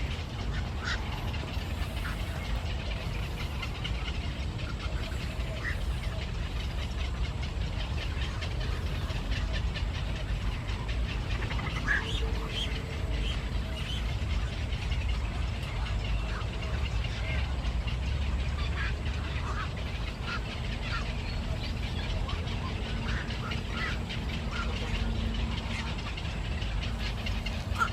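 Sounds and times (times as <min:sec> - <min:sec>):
bird chirping: 0:00.0 - 0:27.9
steady low rumble: 0:00.0 - 0:27.9.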